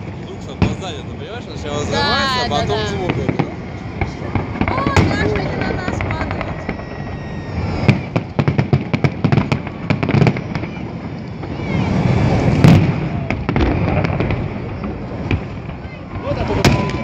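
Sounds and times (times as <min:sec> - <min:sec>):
fireworks crackling pops: 0:00.0 - 0:01.1, 0:02.0 - 0:17.0
loud firework boom: 0:00.0 - 0:01.1, 0:02.9 - 0:17.0.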